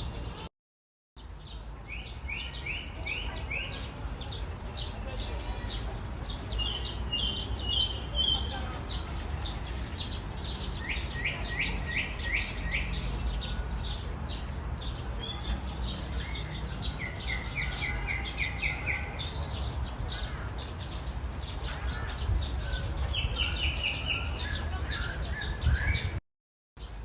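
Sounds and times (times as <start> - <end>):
songbirds singing and chirping: 0.0 - 0.5, 1.2 - 26.2, 26.8 - 27.0.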